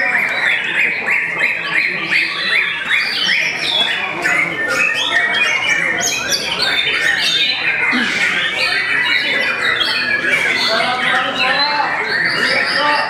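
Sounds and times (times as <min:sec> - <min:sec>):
other birds singing: 0:00.0 - 0:13.0.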